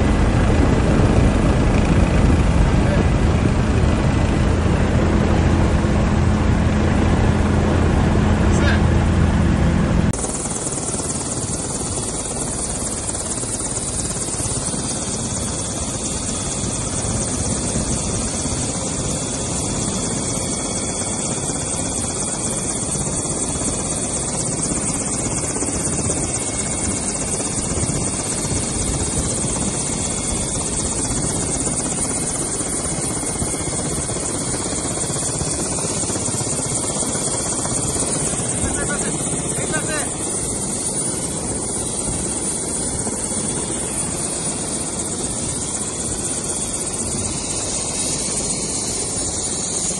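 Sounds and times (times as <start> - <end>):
helicopter rotor and engine: 0.0 - 49.9.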